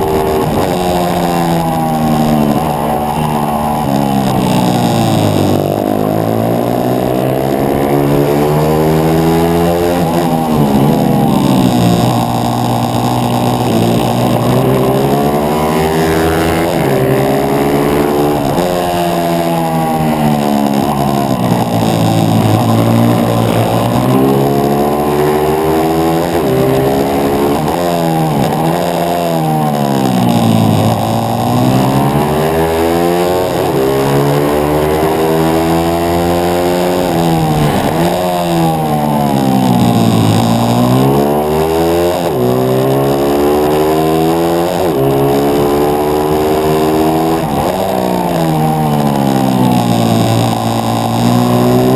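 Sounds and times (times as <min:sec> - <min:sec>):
motorbike engine accelerating and braking: 0:00.0 - 0:51.9.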